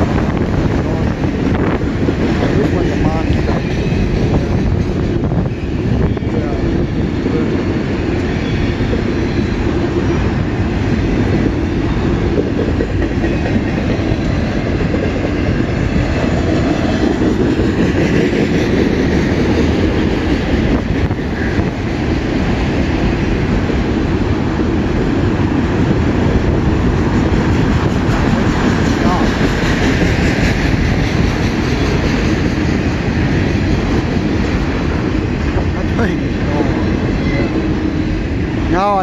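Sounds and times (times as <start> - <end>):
freight train wheels rolling on rails: 0.0 - 39.0.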